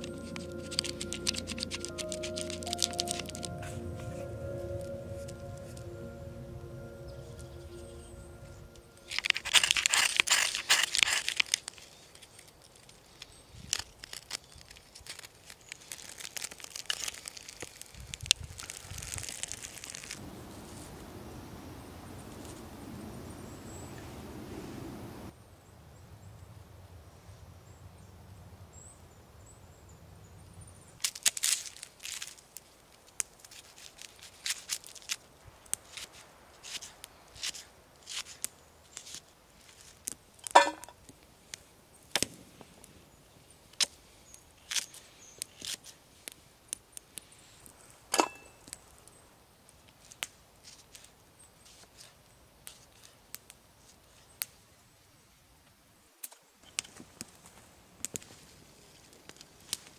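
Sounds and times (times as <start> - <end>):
campfire crackling: 0.0 - 25.4, 31.0 - 59.9.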